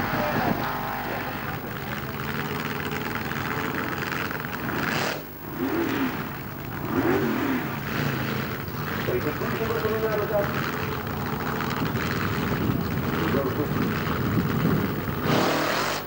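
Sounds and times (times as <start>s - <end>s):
engine revving: 0.0s - 16.0s
loud racing car engines: 0.0s - 16.0s.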